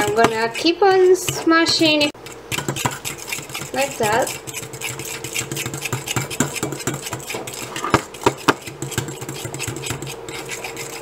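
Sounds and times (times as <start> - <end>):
fork scraping and clicking bowl: 0.0 - 11.0
steady hum: 0.0 - 11.0.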